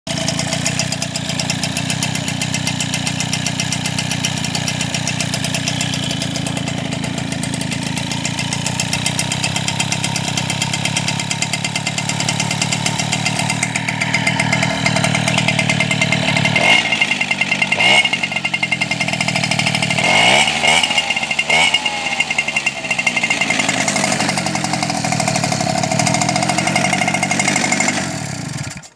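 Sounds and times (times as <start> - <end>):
car engine idling and revving: 0.1 - 28.9.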